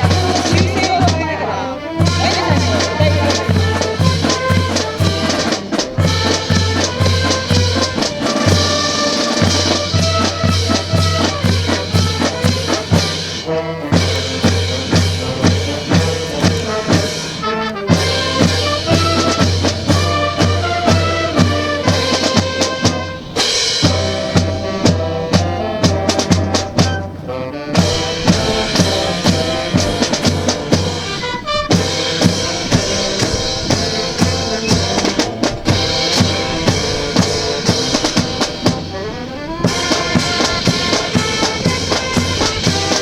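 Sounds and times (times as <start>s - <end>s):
bass drum beat: 0.0s - 1.4s, 2.0s - 27.2s, 27.8s - 38.8s
brass band playing marching music: 0.0s - 43.0s.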